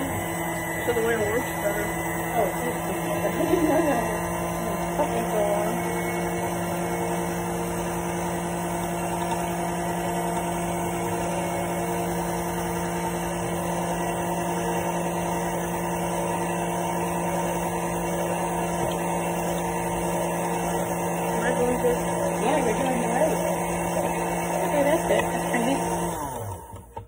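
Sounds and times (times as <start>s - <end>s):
electric mixer running: 0.0s - 27.0s.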